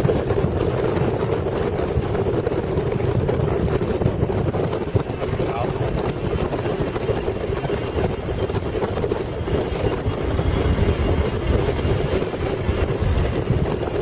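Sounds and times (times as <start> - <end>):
wind rushing in cockpit: 0.0 - 14.0.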